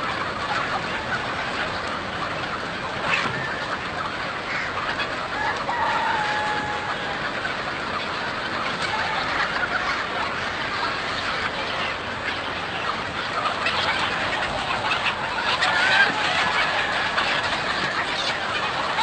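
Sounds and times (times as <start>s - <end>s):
chickens clucking: 0.0s - 19.0s
long drawn-out chicken calls: 0.0s - 19.0s.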